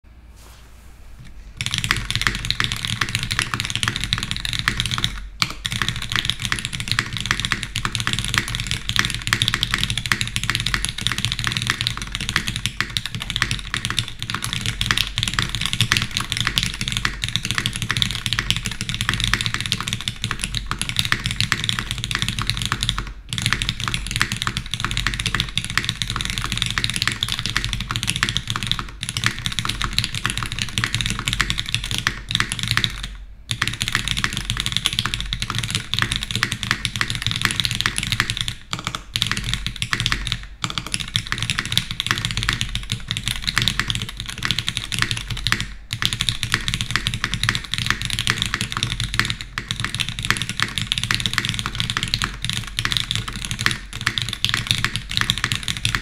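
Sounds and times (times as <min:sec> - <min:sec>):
fast typing on mechanical keyboard: 0:01.6 - 0:56.0.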